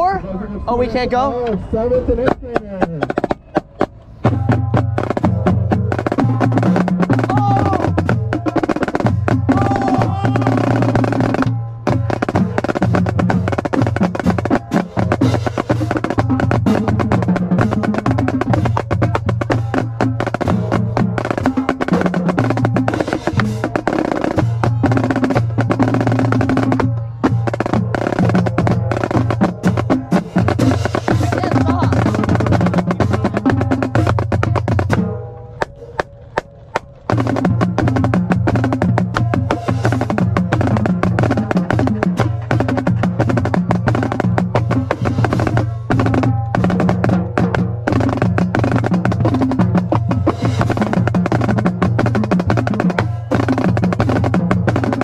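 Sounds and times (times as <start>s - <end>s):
marching snare drum rolls: 2.1s - 55.0s
music with bass line: 2.2s - 55.0s.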